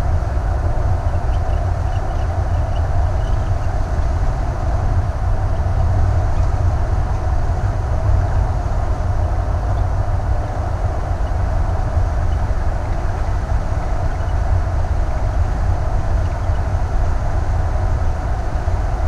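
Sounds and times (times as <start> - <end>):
motorhome cabin road rumble: 0.0 - 19.0.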